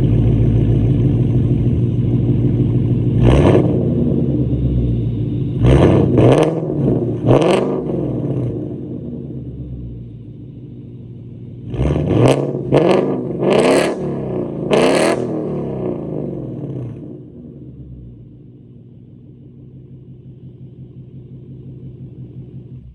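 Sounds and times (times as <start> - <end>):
car engine revving: 0.0 - 19.0
car engine idling: 0.0 - 22.9.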